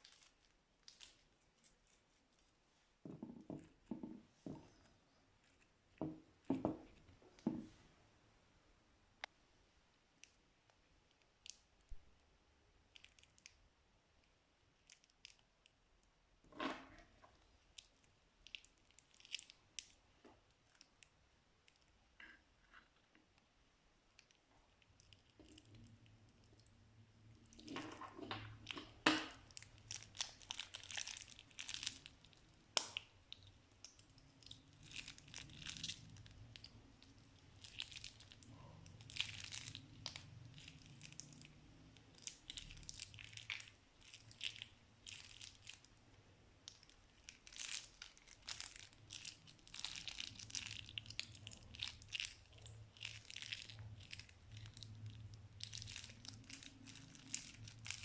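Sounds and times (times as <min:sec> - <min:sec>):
slime crinkling and crackling: 0:00.0 - 0:02.6, 0:12.8 - 0:13.6, 0:14.2 - 0:15.9, 0:16.6 - 0:58.0.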